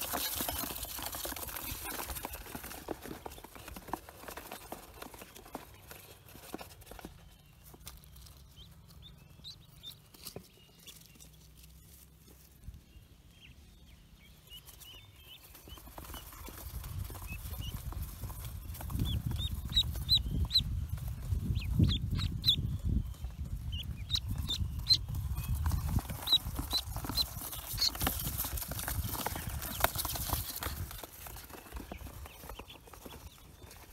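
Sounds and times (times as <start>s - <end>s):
ducklings peeping: 0.0s - 33.9s.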